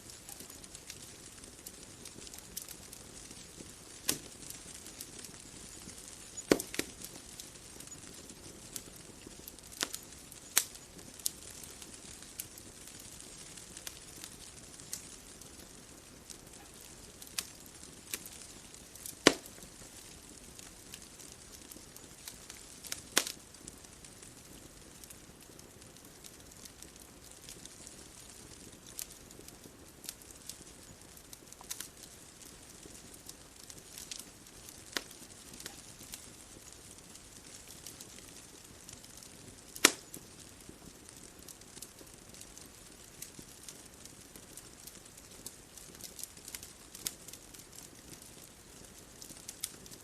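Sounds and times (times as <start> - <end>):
soft steady hiss: 0.0 - 50.0
wood fire crackling: 0.0 - 50.0.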